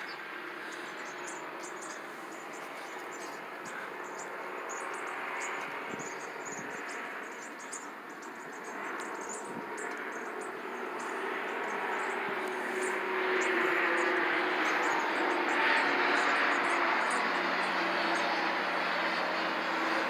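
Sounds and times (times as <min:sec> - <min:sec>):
distant aircraft rushing: 0:00.0 - 0:20.0.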